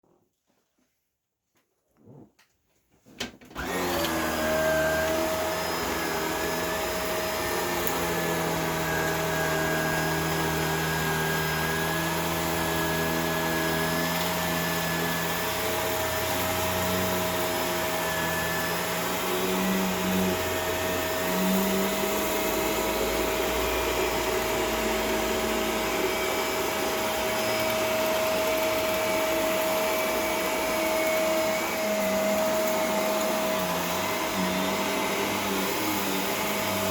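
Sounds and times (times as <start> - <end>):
vacuum cleaner running: 3.5 - 36.9.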